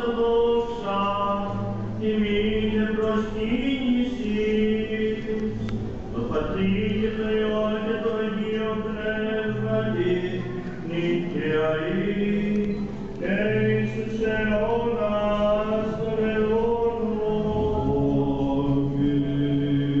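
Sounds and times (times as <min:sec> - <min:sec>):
chanters singing hymn: 0:00.0 - 0:20.0
low vocal drone: 0:00.0 - 0:20.0.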